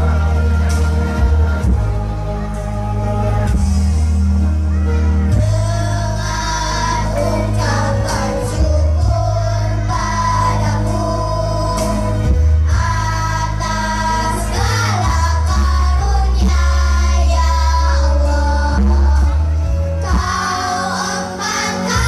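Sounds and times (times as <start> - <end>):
children's choir singing a hymn: 0.0 - 22.0
musical accompaniment with heavy bass: 0.0 - 22.0.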